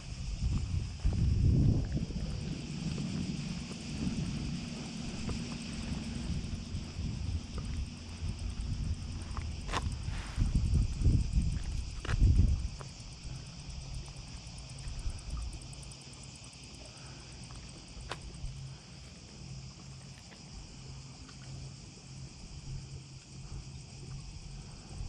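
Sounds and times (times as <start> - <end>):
cicadas buzzing: 0.0 - 25.0
faint low hum: 0.0 - 25.0.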